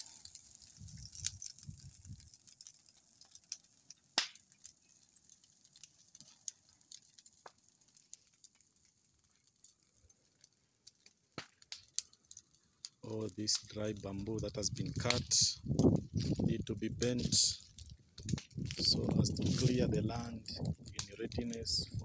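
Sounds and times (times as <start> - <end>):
bamboo fire crackling and popping: 0.0 - 22.0.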